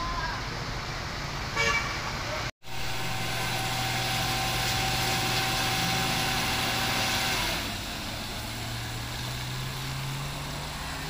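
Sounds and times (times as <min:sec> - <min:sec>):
truck engine hum: 0:00.0 - 0:11.0.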